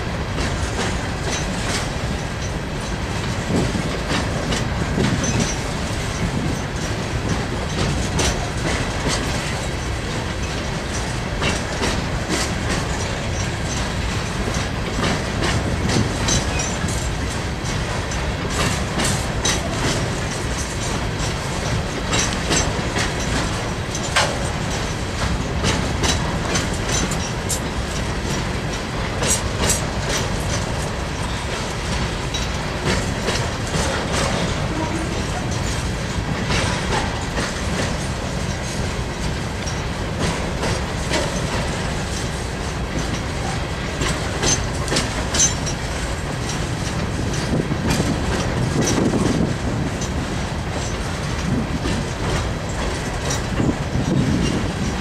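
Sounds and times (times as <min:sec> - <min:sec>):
steel wheels rumbling on rail: 0:00.0 - 0:55.0
train clickety-clack: 0:00.0 - 0:55.0
wheels clanking over rail joints: 0:00.0 - 0:55.0.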